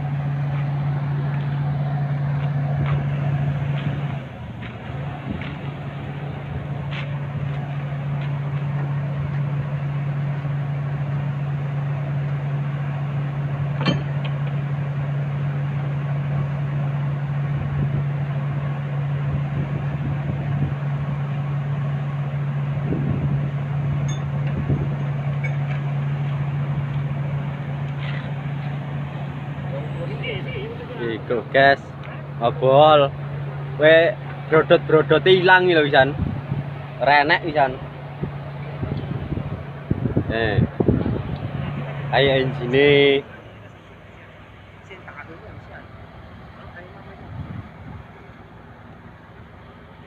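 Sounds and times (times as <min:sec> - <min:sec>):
diesel engine running steadily: 0:00.0 - 0:50.0.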